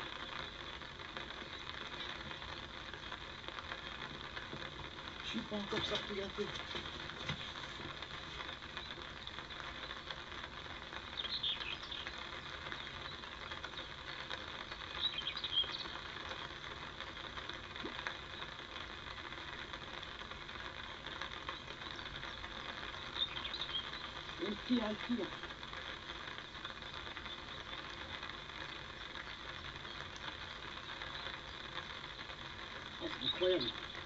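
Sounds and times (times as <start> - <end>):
steady outdoor hiss: 0.0 - 34.0.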